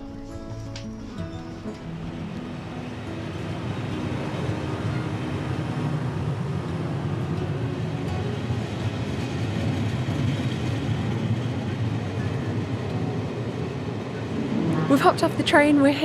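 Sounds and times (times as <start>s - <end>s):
train wheels rumbling on rails: 0.5s - 16.0s.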